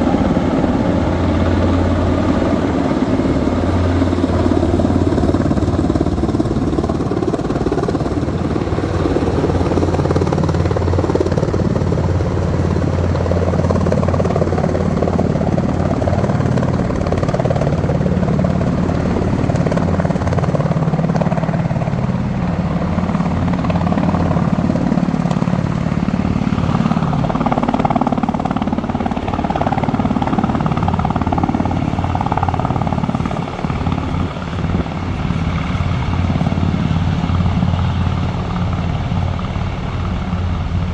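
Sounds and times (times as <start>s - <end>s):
helicopter rotor beat: 0.0s - 40.9s.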